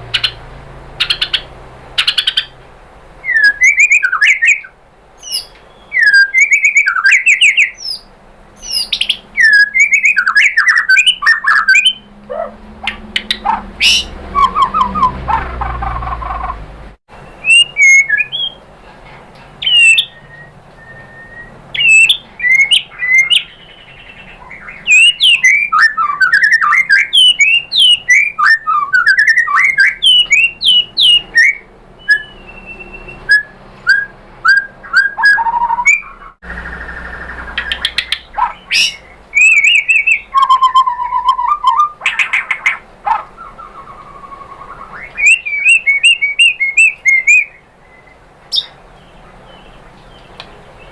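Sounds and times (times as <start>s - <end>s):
songbird whistling and chirping: 1.0s - 2.6s, 3.2s - 18.6s, 19.6s - 50.9s.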